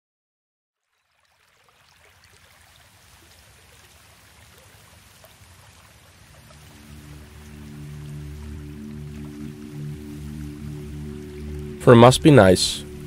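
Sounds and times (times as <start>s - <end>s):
water drip ticks: 0.8s - 11.8s
wash of water: 0.9s - 13.0s.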